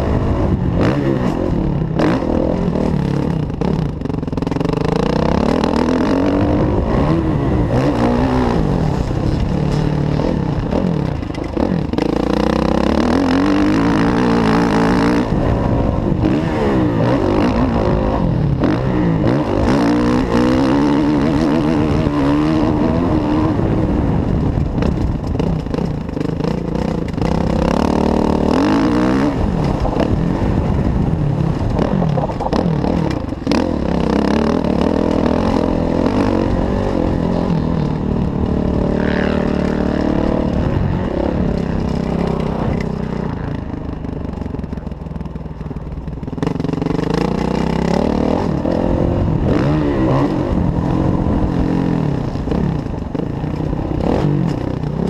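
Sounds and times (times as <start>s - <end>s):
motorcycle engine revving under load: 0.0s - 55.0s.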